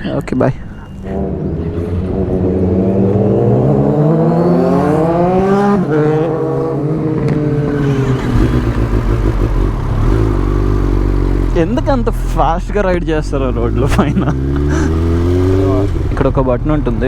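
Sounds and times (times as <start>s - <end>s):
motorcycle engine accelerating: 0.9s - 17.0s.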